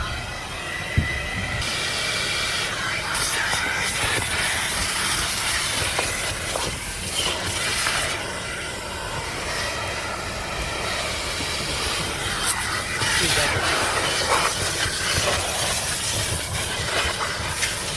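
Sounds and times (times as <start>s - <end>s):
vacuum hose rushing hiss: 0.0s - 17.9s.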